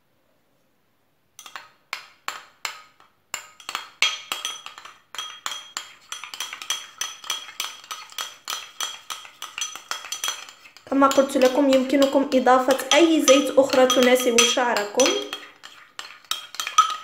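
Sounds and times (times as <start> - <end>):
spoon clinking ceramic bowl: 2.3 - 17.0.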